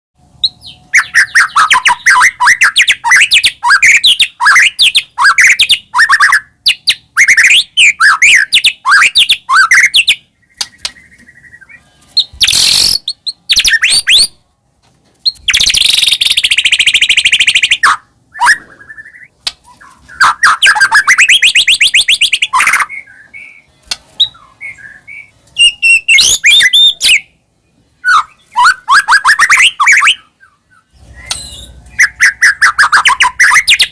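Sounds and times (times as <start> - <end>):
bird whistled song: 0.3 - 14.4, 15.2 - 33.9.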